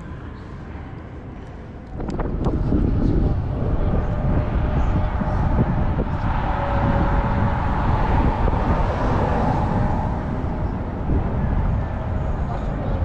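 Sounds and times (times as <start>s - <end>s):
road noise: 1.1s - 13.0s
wind on microphone: 1.9s - 13.0s.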